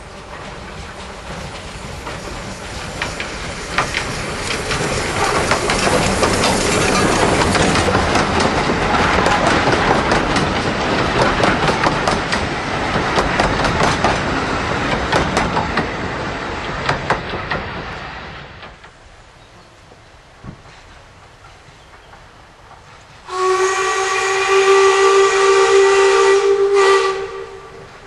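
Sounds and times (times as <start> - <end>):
wheels clicking over rail joints: 0.0 - 23.3
steam train passing: 0.0 - 28.0.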